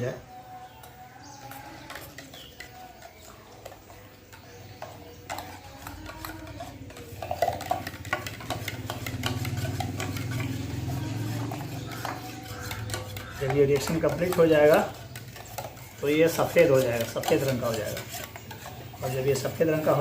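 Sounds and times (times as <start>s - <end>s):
spoon stirring and clinking: 0.1s - 20.0s.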